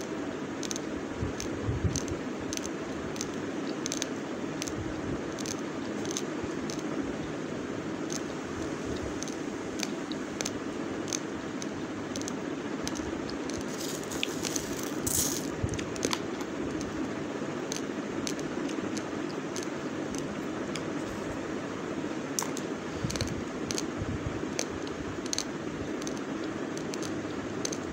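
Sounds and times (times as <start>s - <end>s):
steady background hiss: 0.0s - 27.9s.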